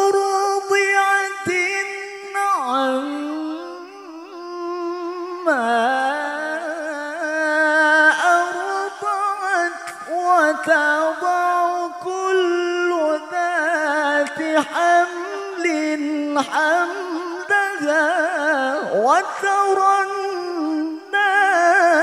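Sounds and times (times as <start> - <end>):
man reciting melodically into microphone: 0.0 - 22.0.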